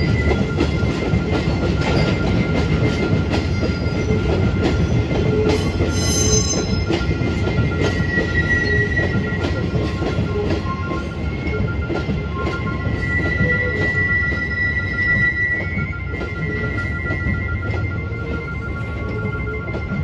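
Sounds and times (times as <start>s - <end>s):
freight train rumbling: 0.0s - 20.0s
wheel squeal: 1.5s - 20.0s.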